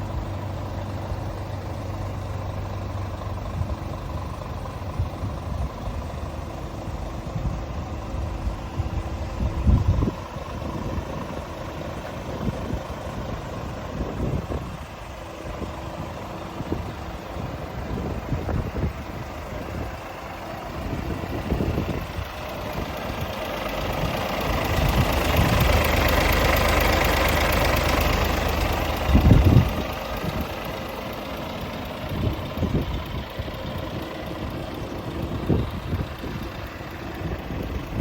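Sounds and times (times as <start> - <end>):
truck diesel engine idling: 0.0 - 38.0.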